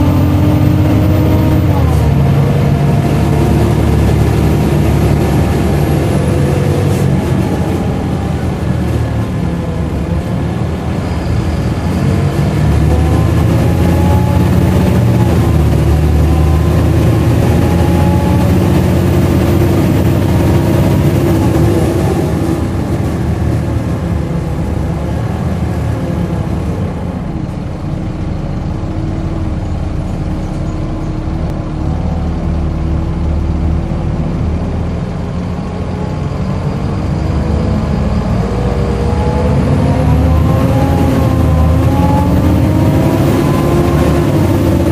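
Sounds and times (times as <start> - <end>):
bus diesel engine changing gear: 0.0 - 44.9.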